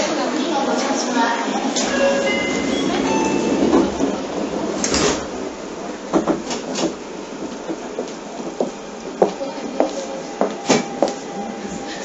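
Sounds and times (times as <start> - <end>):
train car hum: 0.3 - 12.0.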